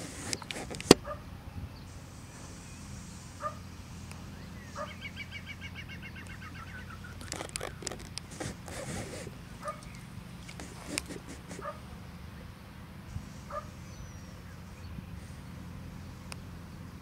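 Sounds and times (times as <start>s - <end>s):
bird calls and trill: 0.0s - 17.0s
steady low hum: 0.0s - 17.0s.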